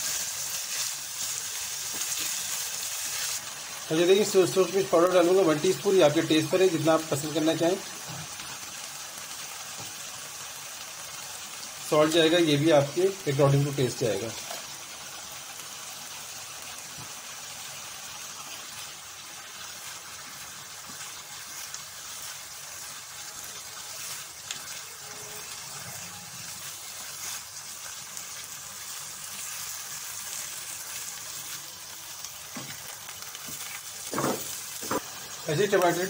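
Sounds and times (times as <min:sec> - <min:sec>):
meat sizzling in oil: 0:00.0 - 0:36.0.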